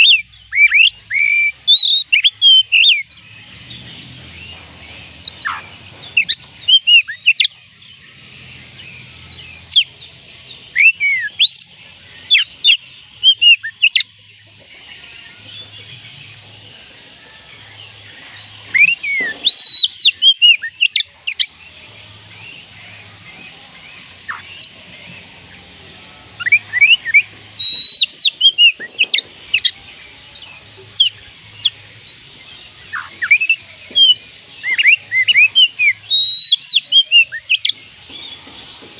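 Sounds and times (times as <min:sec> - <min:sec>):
bird singing whistled notes: 0:00.0 - 0:24.8, 0:25.7 - 0:38.9.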